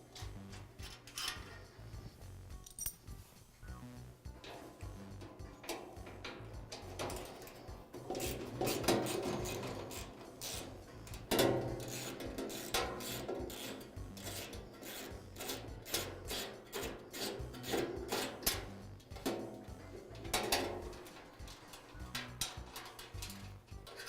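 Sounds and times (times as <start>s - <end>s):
metal clicking and scraping: 0.1s - 2.0s, 2.6s - 3.1s, 4.4s - 24.0s.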